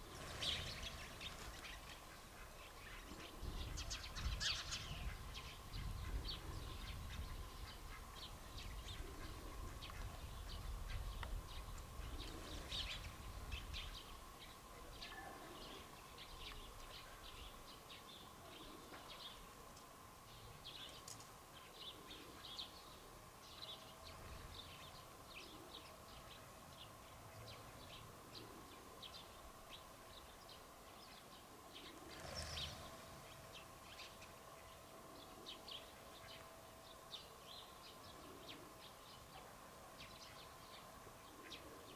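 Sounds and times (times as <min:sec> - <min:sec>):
sparrows chirping: 0:00.0 - 0:19.6, 0:20.2 - 0:41.9.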